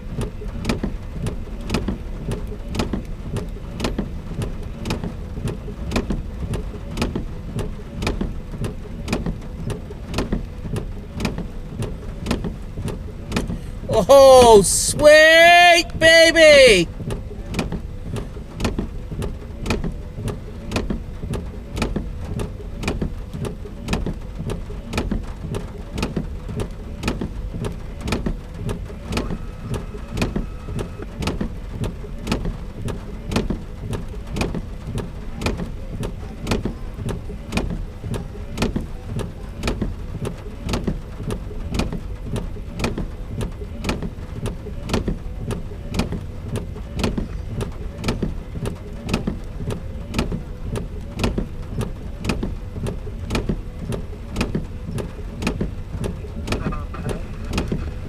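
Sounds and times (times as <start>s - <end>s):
rain on a car: 0.0s - 58.0s.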